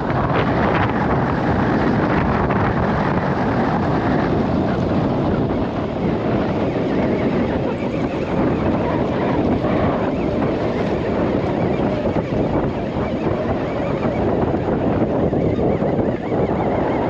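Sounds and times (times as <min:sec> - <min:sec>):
choppy water around boat: 0:00.0 - 0:17.0
wind buffeting microphone: 0:00.0 - 0:17.0.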